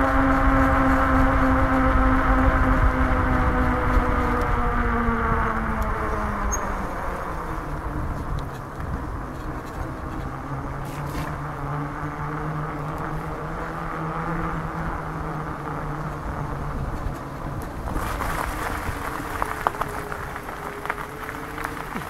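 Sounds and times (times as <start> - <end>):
buzzing hum: 0.0 - 22.0
tyre and wind noise: 0.0 - 22.0.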